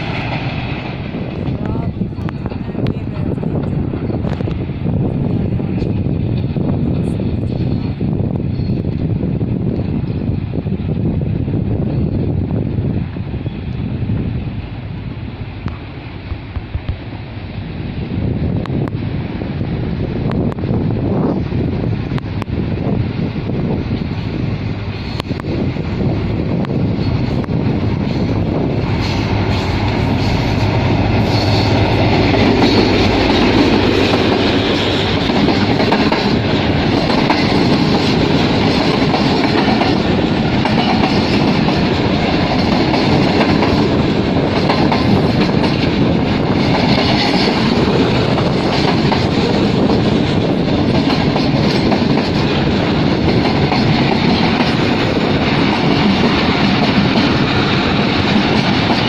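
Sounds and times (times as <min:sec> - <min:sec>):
train wheels clattering over rails: 0:00.0 - 0:10.6, 0:19.6 - 0:59.0.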